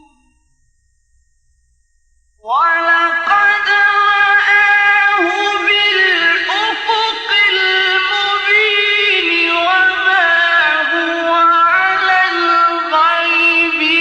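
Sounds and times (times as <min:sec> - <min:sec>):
man reciting melodically: 0:02.4 - 0:14.0.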